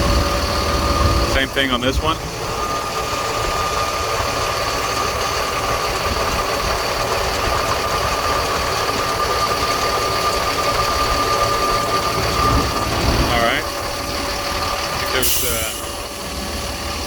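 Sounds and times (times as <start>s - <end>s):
fuel pump whine: 0.0s - 17.0s
truck engine drone: 0.0s - 17.0s.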